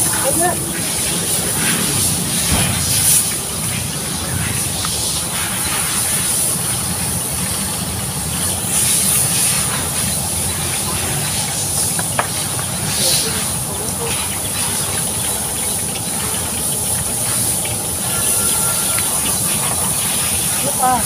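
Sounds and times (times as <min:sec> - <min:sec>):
constant high hiss: 0:00.0 - 0:21.0
low traffic rumble: 0:00.0 - 0:21.0.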